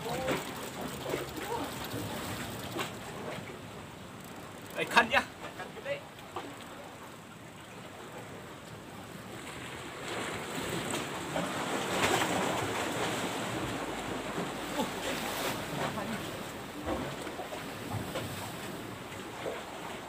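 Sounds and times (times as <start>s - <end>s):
sea waves washing against rocks: 0.0s - 6.2s, 8.5s - 20.0s.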